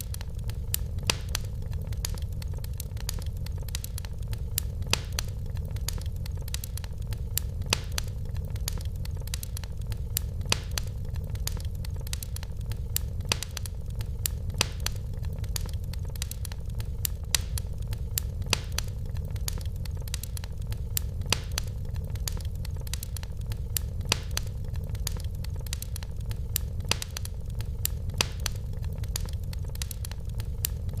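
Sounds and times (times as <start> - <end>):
low rumble of flames: 0.0 - 31.0
sharp pops of fire: 0.0 - 31.0
wood fire crackling: 0.0 - 31.0.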